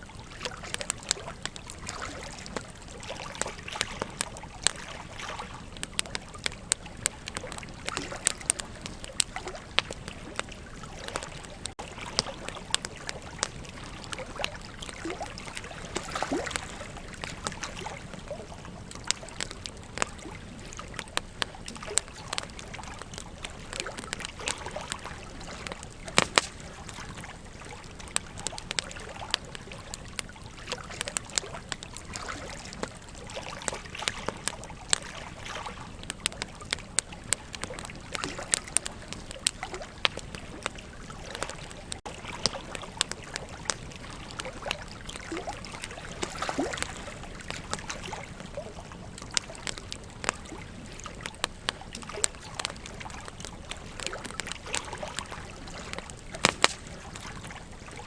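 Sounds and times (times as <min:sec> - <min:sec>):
river trickling and splashing: 0:00.0 - 0:58.0
wood fire crackling and popping: 0:00.0 - 0:58.0.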